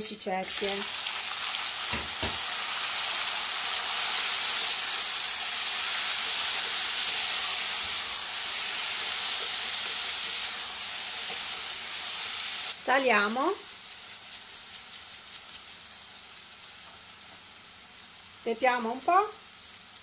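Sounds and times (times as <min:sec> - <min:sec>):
peas sizzling in a pot: 0:00.0 - 0:20.0.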